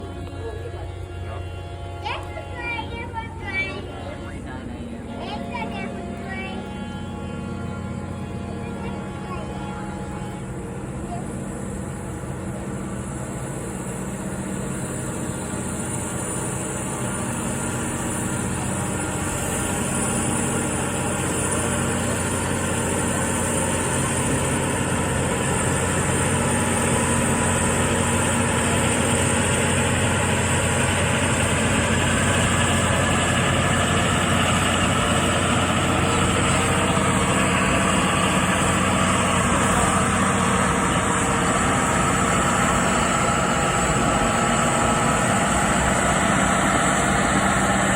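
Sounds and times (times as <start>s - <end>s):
locomotive engine running: 0.0s - 47.9s.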